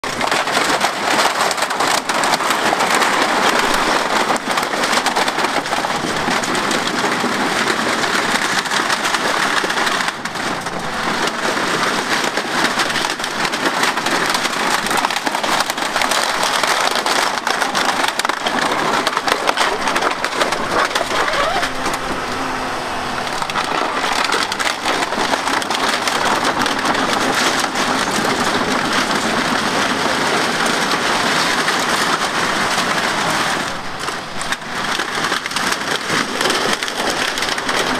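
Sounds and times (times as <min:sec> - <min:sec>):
excavator engine running: 0:00.0 - 0:37.9
plastic scrap crackling and clattering: 0:00.0 - 0:37.9.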